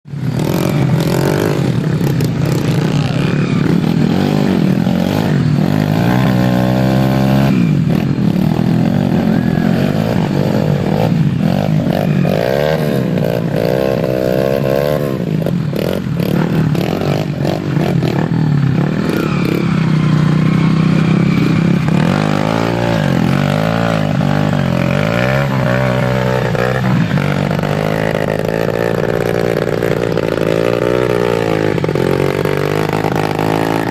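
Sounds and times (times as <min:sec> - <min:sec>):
dirt bike engines revving: 0:00.1 - 0:33.9.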